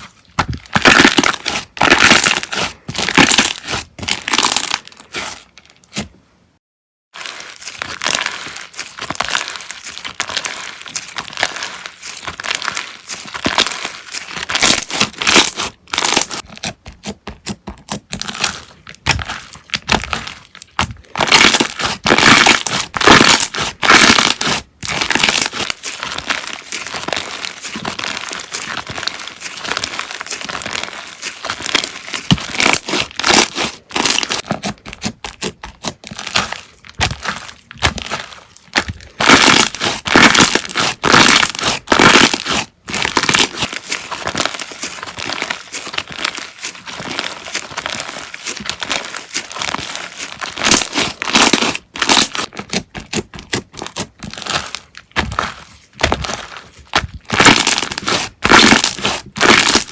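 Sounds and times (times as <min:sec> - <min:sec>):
slime squeezed crackling: 0:00.0 - 0:06.0, 0:07.2 - 0:16.8, 0:17.4 - 0:59.9.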